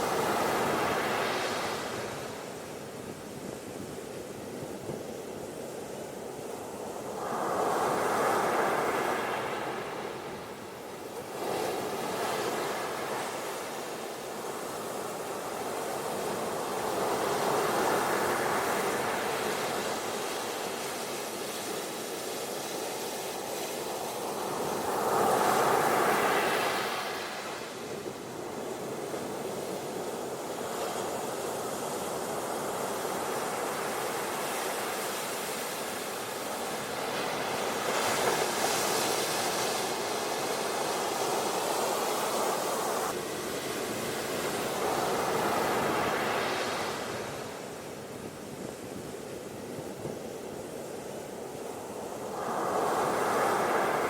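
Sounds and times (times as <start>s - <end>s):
ocean waves washing on beach: 0.0s - 54.0s.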